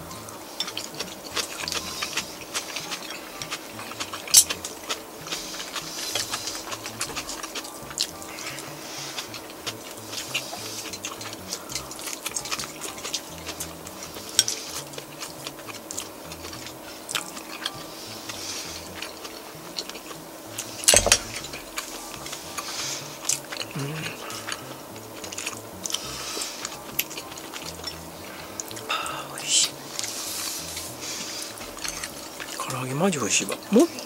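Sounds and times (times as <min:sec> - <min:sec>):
chewing: 0:00.0 - 0:34.0.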